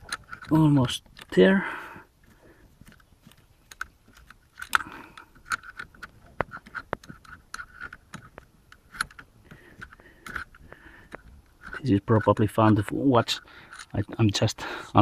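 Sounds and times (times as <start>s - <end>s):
hand wrench clicking: 0.0s - 1.4s, 2.8s - 14.0s.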